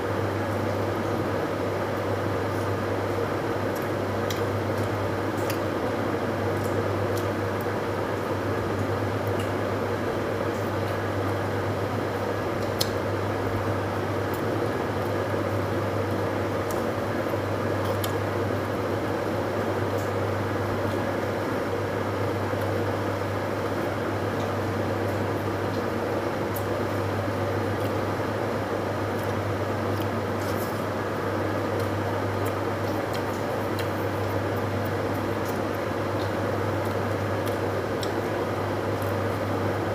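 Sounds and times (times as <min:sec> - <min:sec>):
appliance mechanical hum: 0:00.0 - 0:39.9
eating and handling food: 0:01.9 - 0:39.9.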